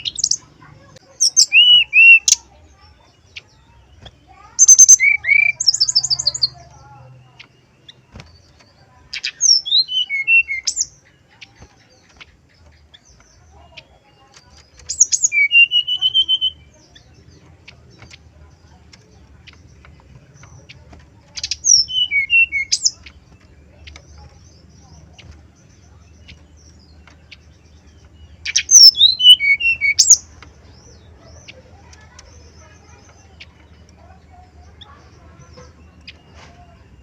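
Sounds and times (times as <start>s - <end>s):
bird singing high slurred notes: 0.0s - 37.0s.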